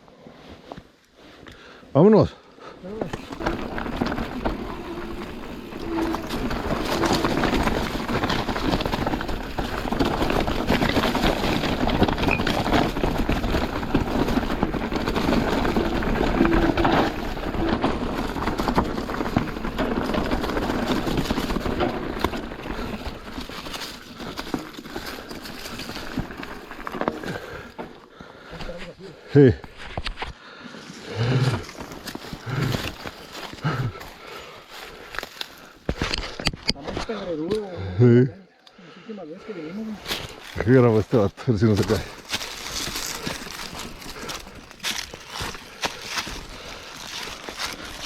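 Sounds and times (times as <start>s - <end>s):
bike tyres rolling over stones: 2.8s - 38.0s, 39.8s - 48.0s
bike rattling: 2.9s - 28.5s, 31.0s - 36.4s, 40.0s - 48.0s.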